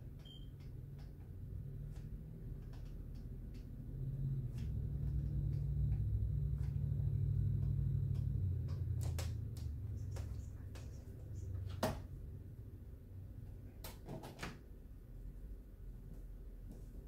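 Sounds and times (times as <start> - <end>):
low steady rumble: 0.0 - 13.9.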